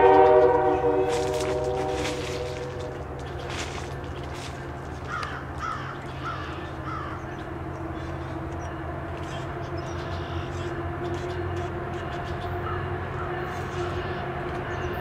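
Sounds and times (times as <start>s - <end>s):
diesel locomotive drone: 0.0s - 15.0s
crow cawing: 1.1s - 8.4s, 9.2s - 14.2s.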